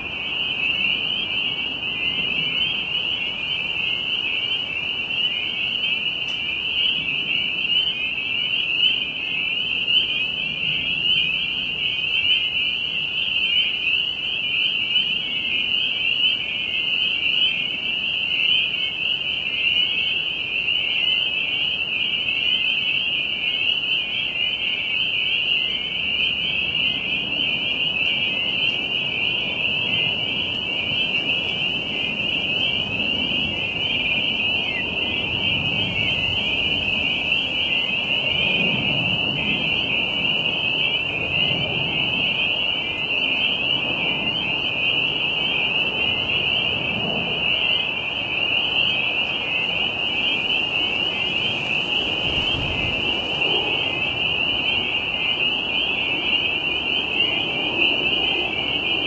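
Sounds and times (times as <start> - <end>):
tree frogs peeping: 0.0 - 59.0.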